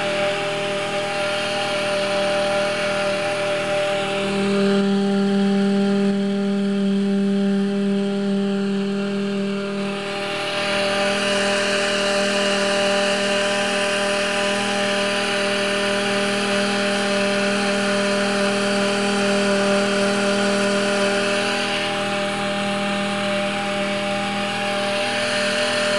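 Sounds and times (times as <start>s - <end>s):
high-pitched motor whine: 0.0s - 25.9s.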